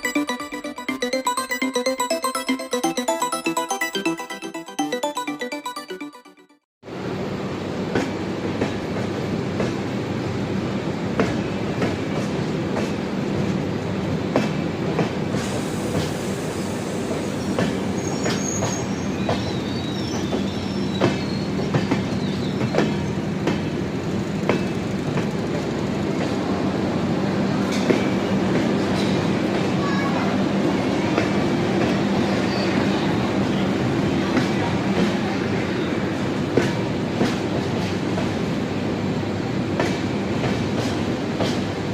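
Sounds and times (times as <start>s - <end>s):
train rumble and hum: 7.0s - 41.9s.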